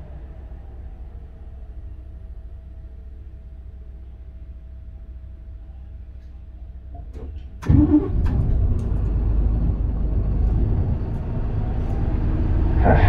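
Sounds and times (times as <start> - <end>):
bus diesel engine starting: 0.0 - 5.6, 6.8 - 13.0
bus idling hum: 0.0 - 13.0.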